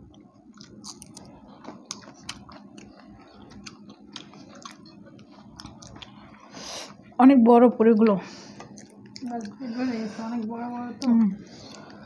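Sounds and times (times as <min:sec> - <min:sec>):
people chewing: 0:00.0 - 0:07.1, 0:07.9 - 0:12.0.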